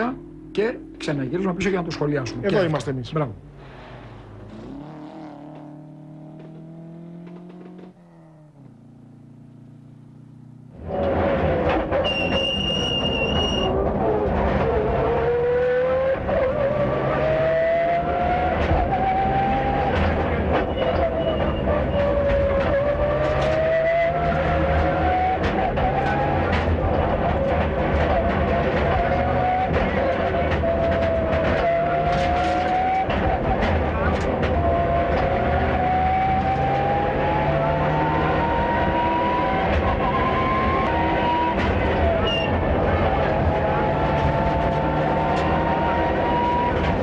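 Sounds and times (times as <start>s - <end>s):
rally car engine revving: 0.0s - 47.0s
road noise: 0.0s - 47.0s.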